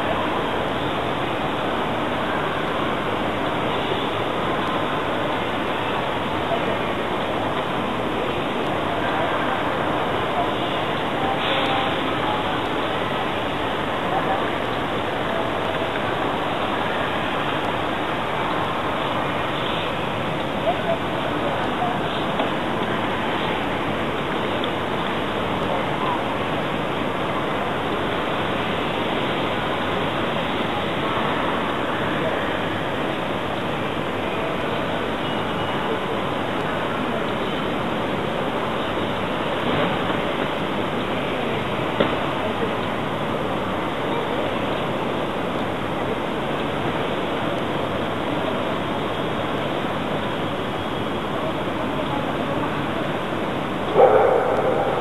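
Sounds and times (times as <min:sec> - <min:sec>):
crowd hubbub: 0:00.0 - 0:55.0
steady rushing background noise: 0:00.0 - 0:55.0.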